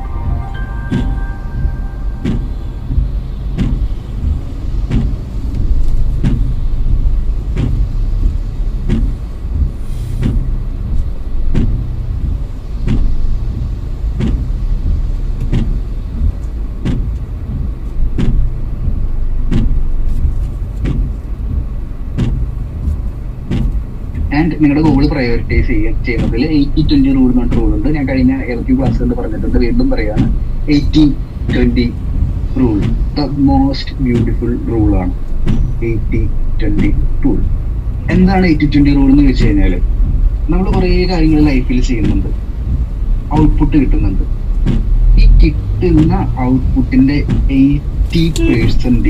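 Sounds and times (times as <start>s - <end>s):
road and engine rumble: 0.0s - 49.0s.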